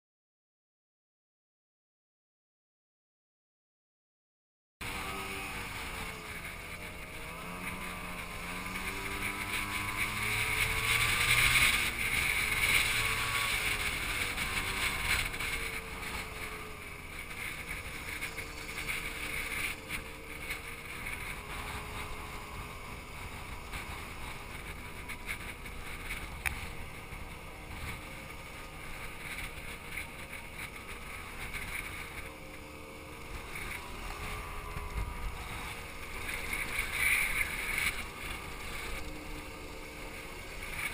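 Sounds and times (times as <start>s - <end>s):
scooter engine running: 4.8s - 40.9s
wind on microphone: 4.8s - 40.9s.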